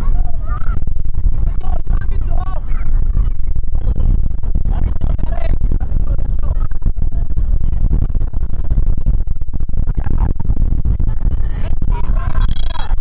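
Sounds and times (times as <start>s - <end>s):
faint voices: 0.0s - 9.0s, 9.9s - 13.0s
wind buffeting microphone: 0.0s - 13.0s.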